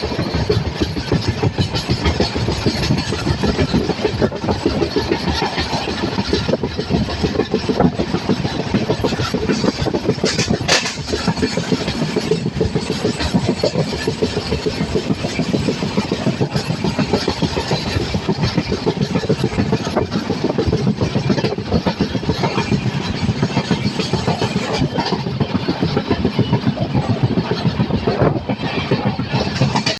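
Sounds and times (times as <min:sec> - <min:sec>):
train wheels clattering on rails: 0:00.0 - 0:29.9.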